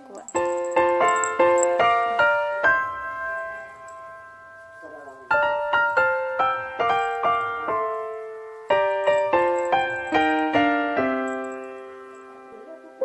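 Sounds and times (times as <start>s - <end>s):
light piano melody: 0.0s - 13.0s.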